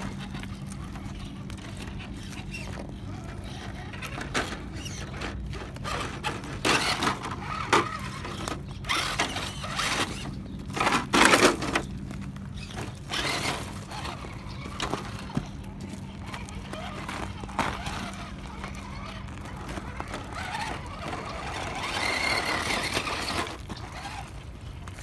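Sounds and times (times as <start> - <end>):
rocks and gravel crunching: 0.0 - 25.0
steady low hum: 0.0 - 25.0.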